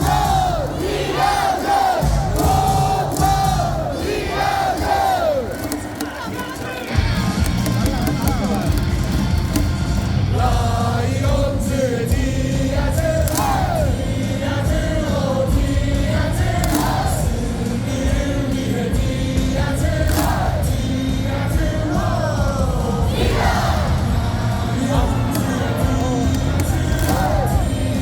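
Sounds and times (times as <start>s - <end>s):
crowd singing in unison: 0.0s - 28.0s
loud amplified music: 0.0s - 28.0s.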